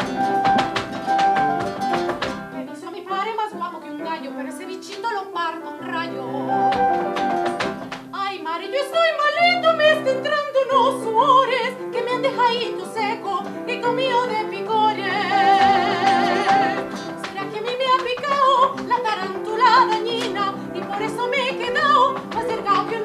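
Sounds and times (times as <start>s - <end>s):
grand piano: 0.0s - 23.0s
woman singing operatically: 2.6s - 7.5s, 8.1s - 23.0s.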